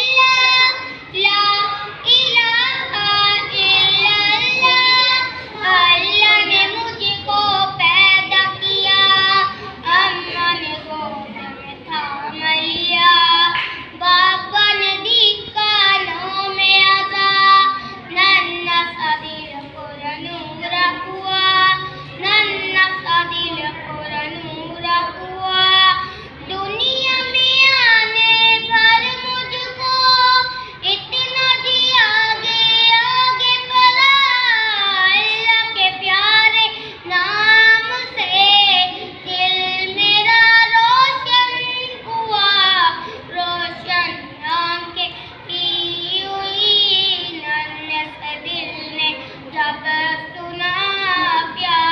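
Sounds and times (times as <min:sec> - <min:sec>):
child singing: 0:00.0 - 0:51.9.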